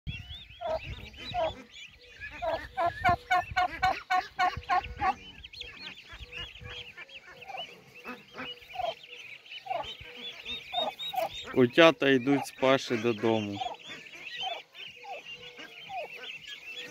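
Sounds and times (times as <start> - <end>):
ducklings peeping: 0.1 - 16.9.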